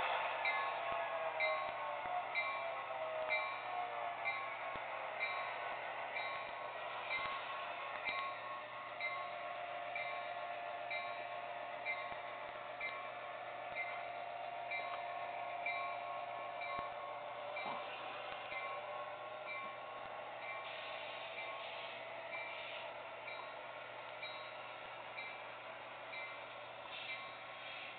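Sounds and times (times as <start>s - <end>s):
model locomotive bell ringing: 0.0s - 27.9s
model train whine: 0.0s - 27.9s.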